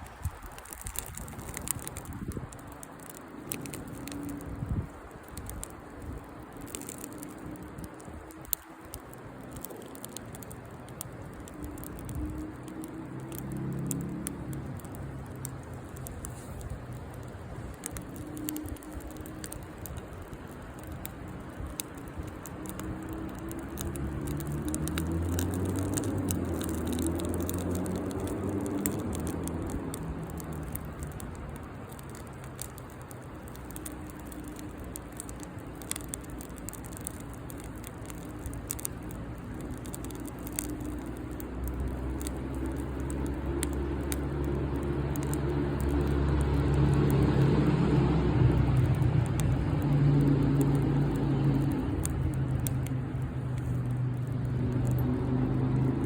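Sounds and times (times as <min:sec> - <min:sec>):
campfire wood crackling: 0:00.0 - 0:56.0
vehicle engine hum: 0:09.2 - 0:56.0.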